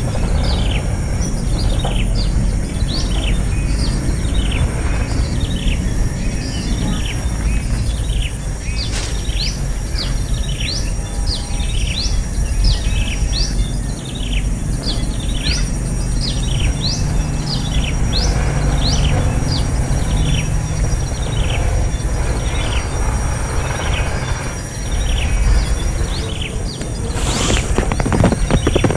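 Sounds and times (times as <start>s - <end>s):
low background rumble: 0.0s - 28.9s
small birds chirping: 0.0s - 28.9s.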